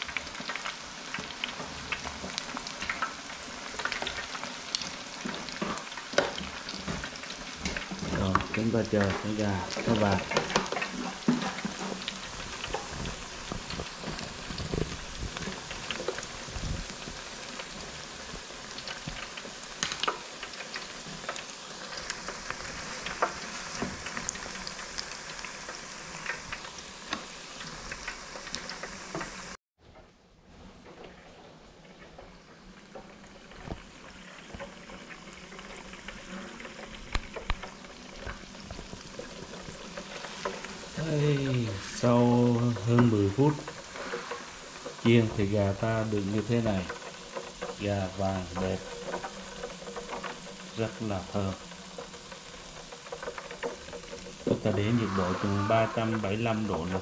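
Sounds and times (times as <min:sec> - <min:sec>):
chicken deep-frying in oil: 0:00.0 - 0:29.6, 0:30.4 - 0:57.0.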